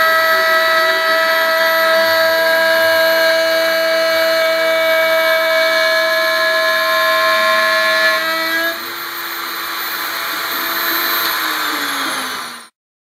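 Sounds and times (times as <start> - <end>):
end mill cutting metal: 0.0 - 12.7
milling machine spindle whine: 0.0 - 12.7.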